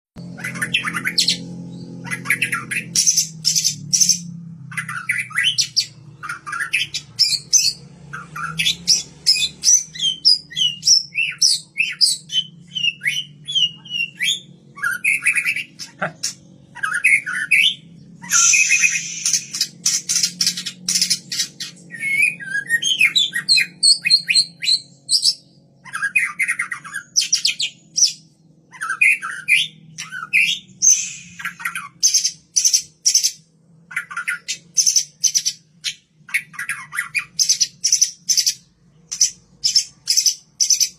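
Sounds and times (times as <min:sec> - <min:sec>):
bird singing whistled song: 0:00.2 - 0:16.0, 0:16.7 - 0:40.9
harsh rasping bird calls: 0:00.2 - 0:40.9.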